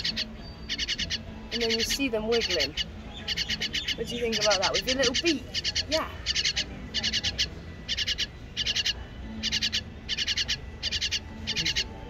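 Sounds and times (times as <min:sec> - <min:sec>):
fledgling bird chirping: 0:00.0 - 0:12.0.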